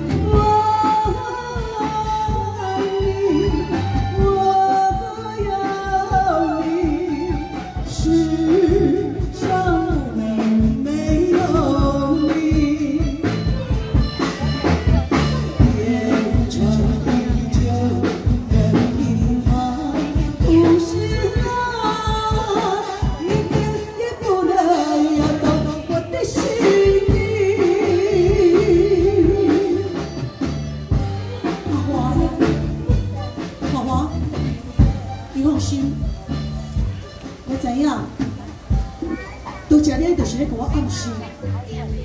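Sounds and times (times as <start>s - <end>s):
instrumental accompaniment: 0.0s - 42.0s
person singing through microphone: 0.0s - 42.0s
steady percussion beat: 0.0s - 42.0s.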